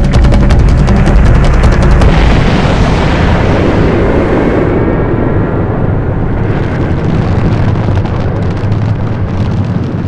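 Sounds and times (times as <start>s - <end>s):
deep rumble of flame bursts: 0.0s - 10.0s.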